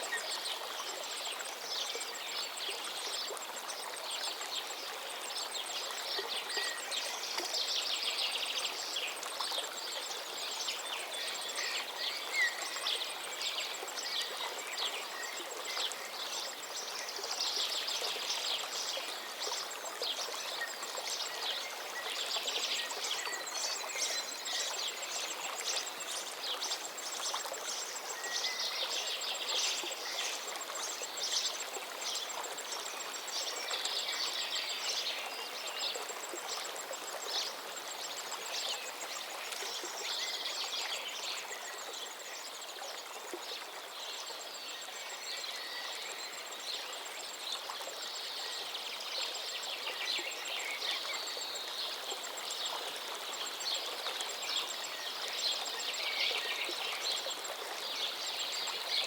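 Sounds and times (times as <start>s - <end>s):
river running: 0.0s - 59.0s.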